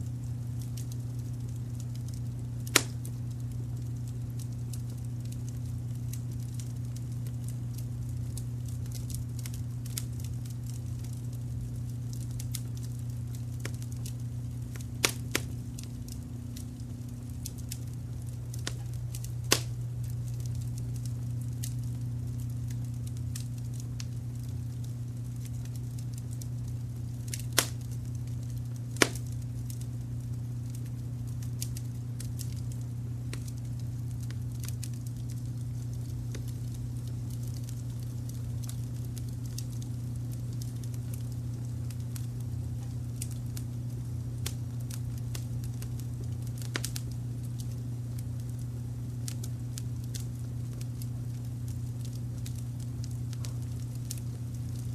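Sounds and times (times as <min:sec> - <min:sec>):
low rumble of brown noise: 0:00.0 - 0:54.9
wood fire crackling and popping: 0:00.0 - 0:54.9.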